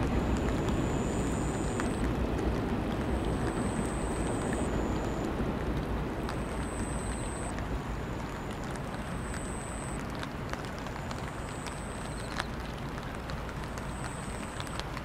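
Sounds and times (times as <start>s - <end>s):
drops ticking: 0.0s - 5.3s, 6.2s - 15.0s
city rumble: 0.0s - 15.0s
steady rain: 0.0s - 15.0s.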